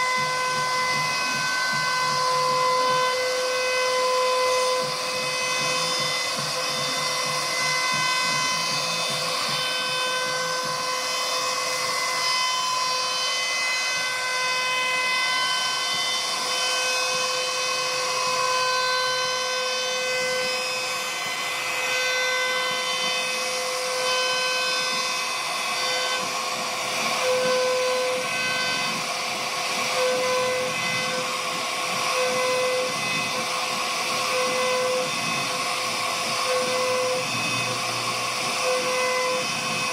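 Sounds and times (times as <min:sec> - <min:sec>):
bit cutting wood: 0:00.0 - 0:39.9
router spindle whine: 0:00.0 - 0:39.9.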